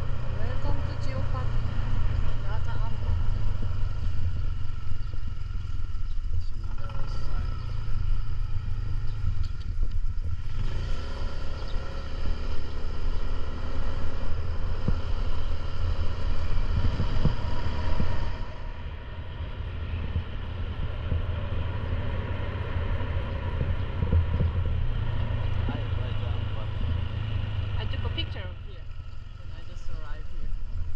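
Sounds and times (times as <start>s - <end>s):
wind rumbling on microphone: 0.0s - 28.2s
motorcycle engine running: 0.0s - 30.9s.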